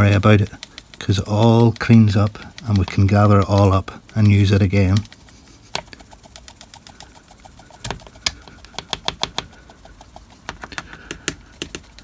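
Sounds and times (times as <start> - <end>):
grass applicator rattling: 0.0 - 12.0.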